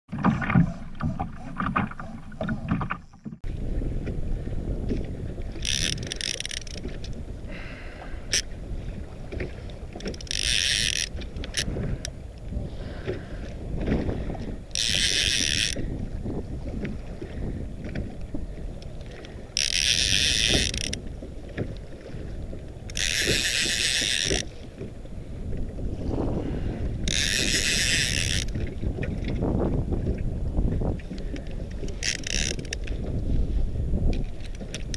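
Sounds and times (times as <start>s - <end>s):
choppy water against a kayak: 0.1s - 34.9s
wind: 0.1s - 34.9s.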